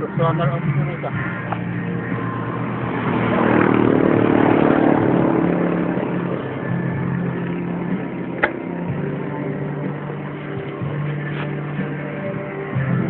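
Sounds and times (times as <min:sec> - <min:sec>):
vehicle passing: 0:00.4 - 0:13.0.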